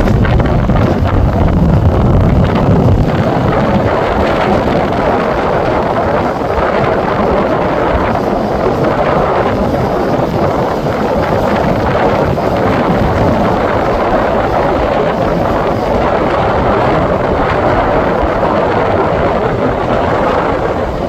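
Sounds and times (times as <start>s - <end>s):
heavy surf: 0.0s - 21.0s
strong wind buffeting microphone: 0.0s - 21.0s.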